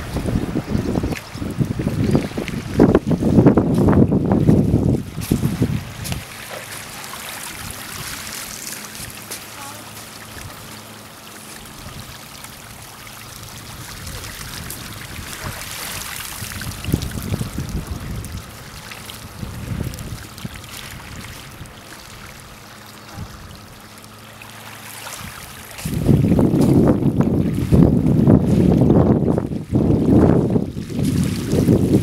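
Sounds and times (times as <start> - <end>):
gentle waves lapping: 0.0 - 32.0.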